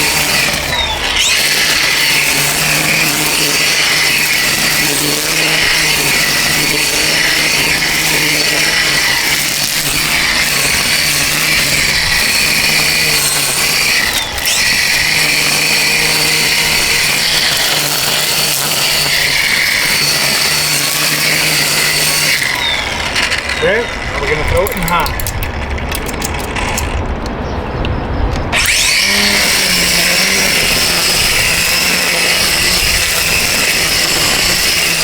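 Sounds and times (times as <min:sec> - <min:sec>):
string trimmer cutting grass: 0:00.0 - 0:27.3, 0:28.5 - 0:35.0.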